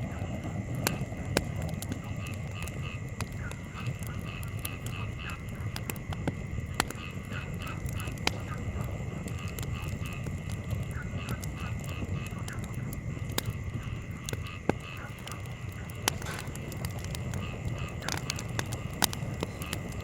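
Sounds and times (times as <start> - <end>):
breeze rumble: 0.0 - 20.0
campfire crackling: 0.0 - 20.0.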